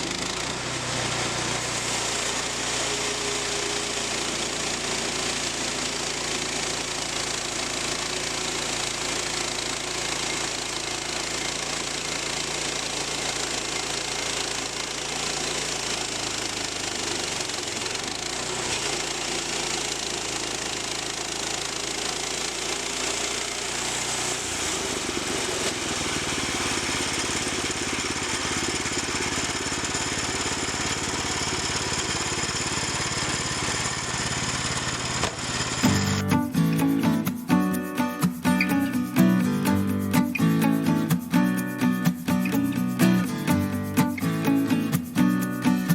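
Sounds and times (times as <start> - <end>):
sawmill engine humming: 0.0 - 45.9.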